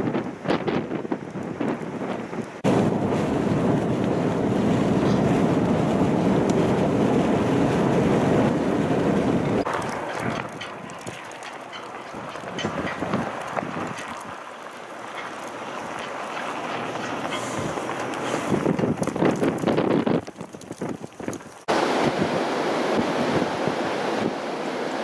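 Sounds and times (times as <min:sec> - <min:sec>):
wind buffeting microphone: 0:00.0 - 0:24.4.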